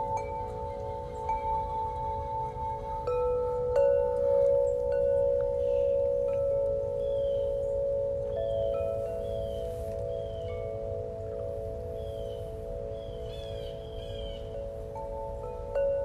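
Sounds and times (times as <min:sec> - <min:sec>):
chimes ringing: 0:00.0 - 0:16.0.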